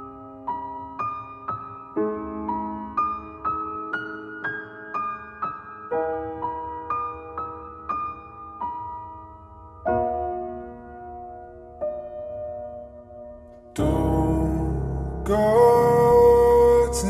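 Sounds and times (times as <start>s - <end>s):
slow soft piano notes: 0.0s - 17.0s.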